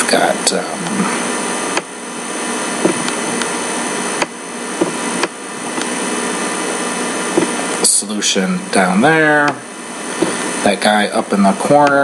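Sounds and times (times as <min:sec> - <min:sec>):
whirring machine hum: 0:00.0 - 0:12.0.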